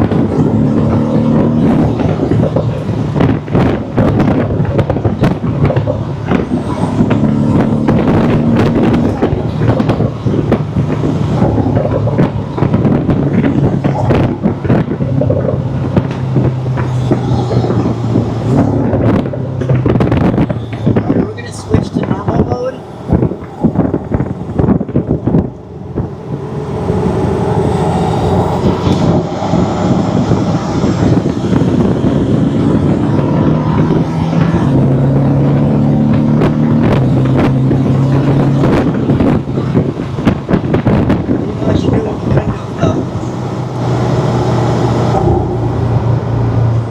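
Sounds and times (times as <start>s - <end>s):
car engine from inside cabin: 0.0s - 46.9s
turbo intake whine: 0.0s - 46.9s.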